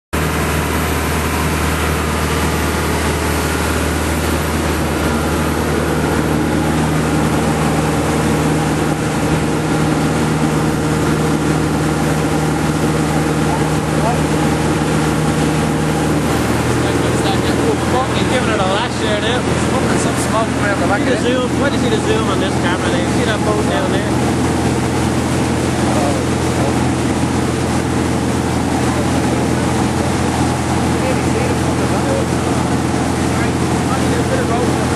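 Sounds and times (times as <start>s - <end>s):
boat engine droning: 0.2s - 34.9s
water noise: 0.2s - 34.9s
wind: 0.2s - 34.9s.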